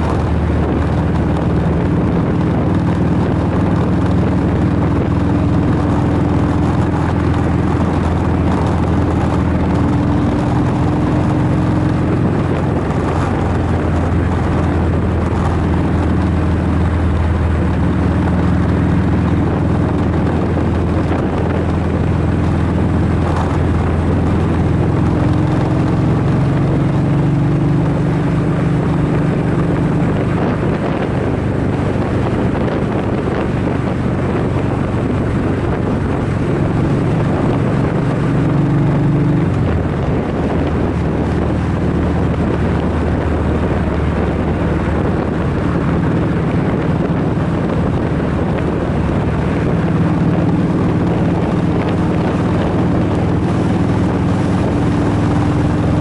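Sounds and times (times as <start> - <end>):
vehicle engine running: 0.0 - 56.0
wind and road noise: 0.0 - 56.0.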